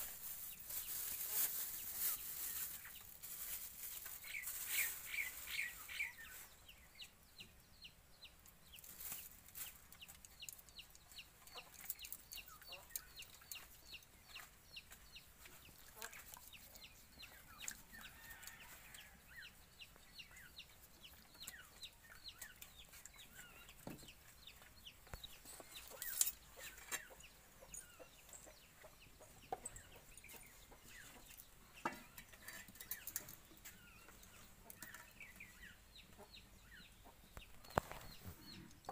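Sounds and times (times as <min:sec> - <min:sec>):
chicks peeping: 0:00.3 - 0:38.9.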